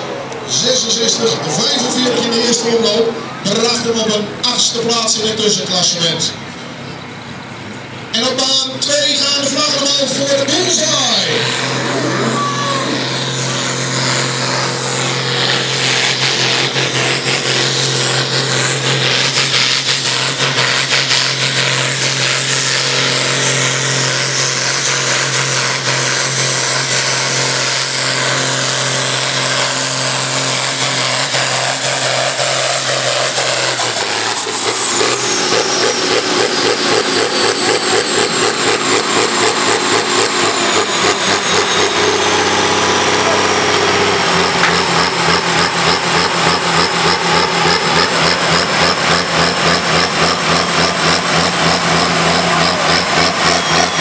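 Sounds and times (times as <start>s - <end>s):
high whine: 0.0s - 54.0s
tractor diesel engine droning: 0.0s - 54.0s.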